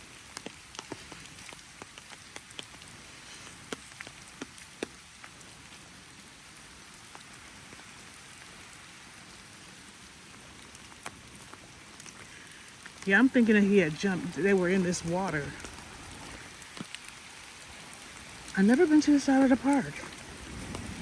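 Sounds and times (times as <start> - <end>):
large raindrops ticking: 0.0 - 21.0
steady rain falling: 0.0 - 21.0.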